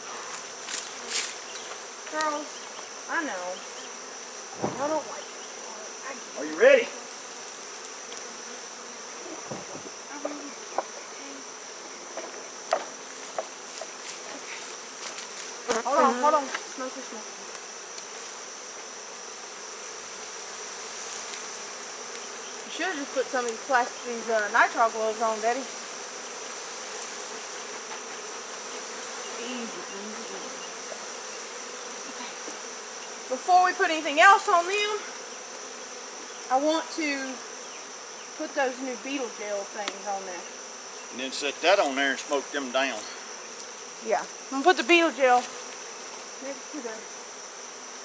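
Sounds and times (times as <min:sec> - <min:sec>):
high-pitched insect whine: 0:00.0 - 0:48.0
honeybees buzzing: 0:00.0 - 0:48.0.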